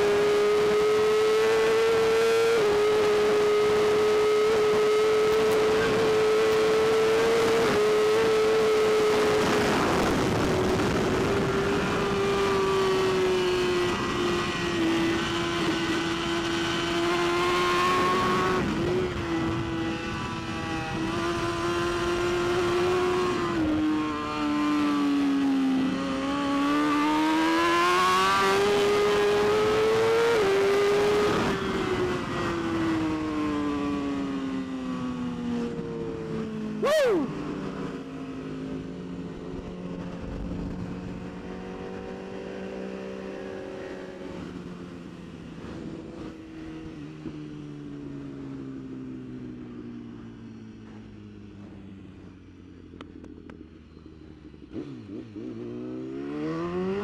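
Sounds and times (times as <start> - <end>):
motorcycle engine revving at speed: 0.0 - 57.0.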